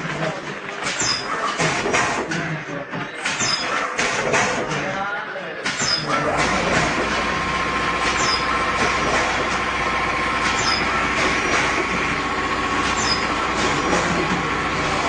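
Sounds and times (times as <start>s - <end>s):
factory machine whining: 0.0s - 15.0s.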